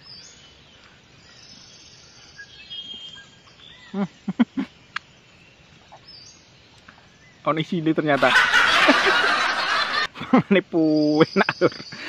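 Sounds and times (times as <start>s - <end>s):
birds: 0.0s - 12.0s
insects: 0.0s - 12.0s.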